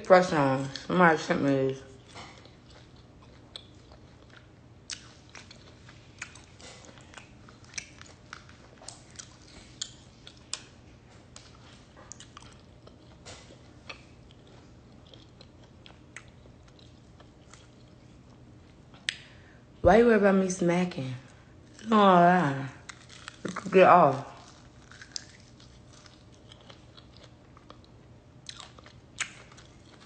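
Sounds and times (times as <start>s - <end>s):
faint steady hum: 0.0s - 30.0s
person chewing with smacking: 1.9s - 19.3s, 22.8s - 30.0s.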